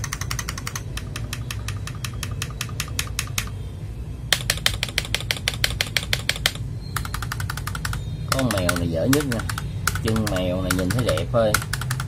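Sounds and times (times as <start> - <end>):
mechanical keyboard clicking: 0.0 - 3.5, 4.3 - 12.0.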